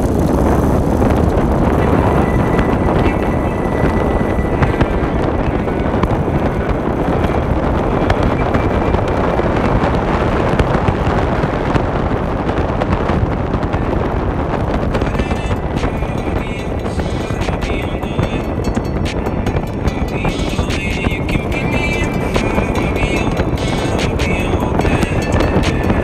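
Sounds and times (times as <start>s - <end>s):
scooter engine hum: 0.0s - 26.0s
tyres on road: 0.0s - 26.0s
wind buffeting microphone: 0.0s - 26.0s.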